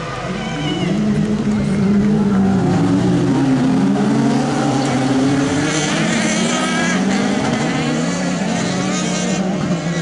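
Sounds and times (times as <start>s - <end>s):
race car engines revving high: 0.0s - 10.0s.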